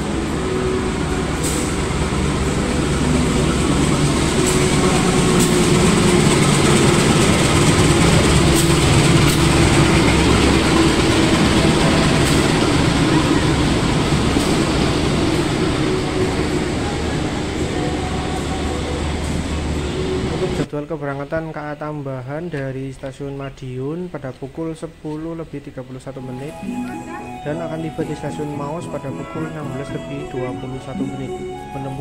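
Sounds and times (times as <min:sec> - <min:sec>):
diesel locomotive engine hum: 0:00.0 - 0:21.3, 0:22.0 - 0:32.0.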